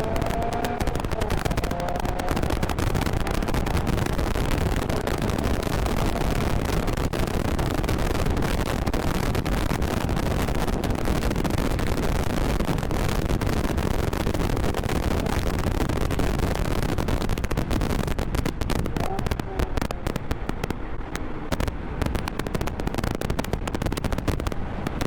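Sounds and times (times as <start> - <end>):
car engine: 0.0 - 25.0
road noise: 0.0 - 25.0
wind rushing on microphone: 0.0 - 25.0.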